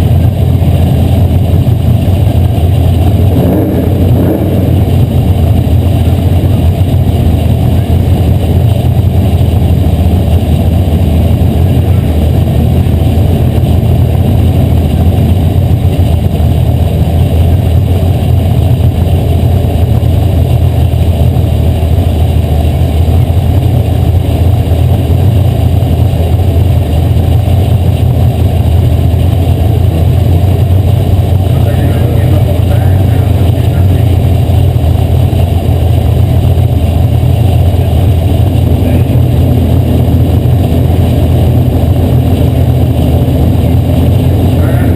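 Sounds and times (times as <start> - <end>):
race car engine droning: 0.0 - 44.9.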